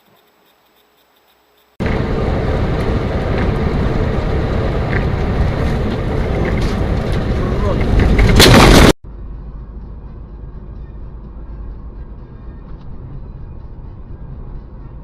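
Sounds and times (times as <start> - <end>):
car engine and road rumble: 1.4 - 15.0.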